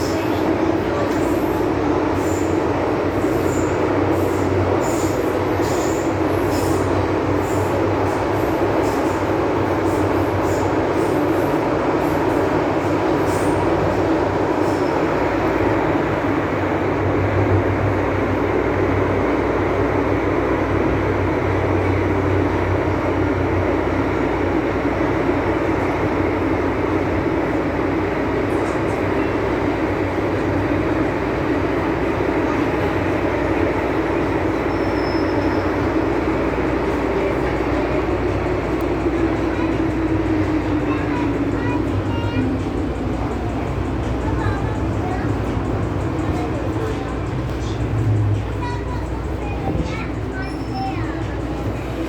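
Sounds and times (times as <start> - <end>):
train rumbling with low hum: 0.0 - 52.0.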